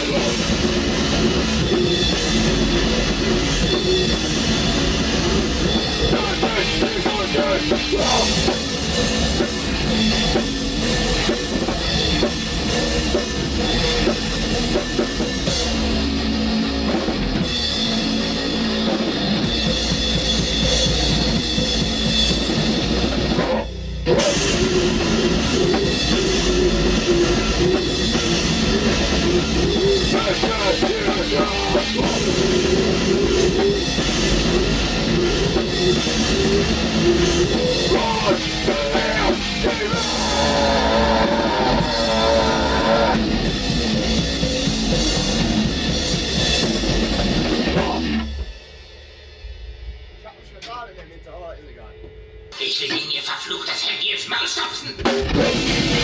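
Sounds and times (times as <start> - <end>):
bass drum: 0.0 - 48.5
black metal band playing: 0.0 - 49.4, 55.0 - 56.0.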